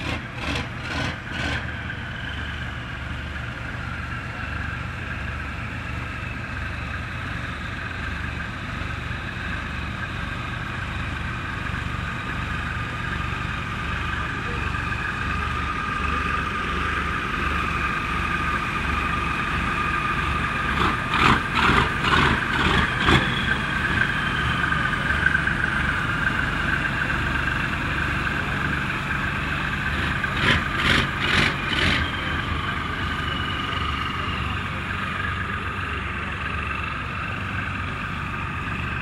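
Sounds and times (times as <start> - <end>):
boat engines idling: 0.0 - 39.0.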